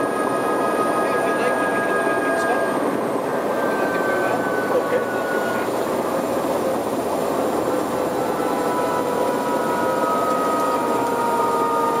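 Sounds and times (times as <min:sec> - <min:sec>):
helicopter rotor and engine: 0:00.0 - 0:12.0
high whining tones: 0:00.0 - 0:12.0.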